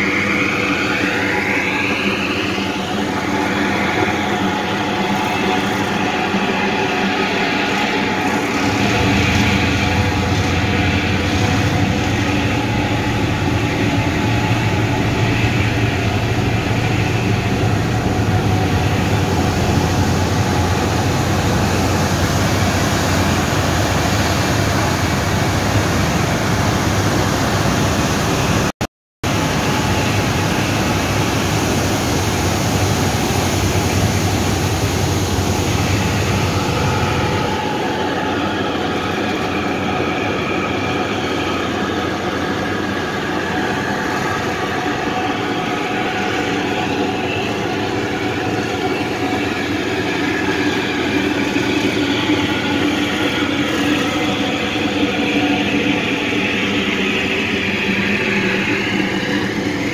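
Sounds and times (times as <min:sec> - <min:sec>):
ferry engines rumbling: 0:00.0 - 0:59.9
rush of churning wake: 0:00.0 - 0:59.9
steady multi-tone hum: 0:00.0 - 0:59.9.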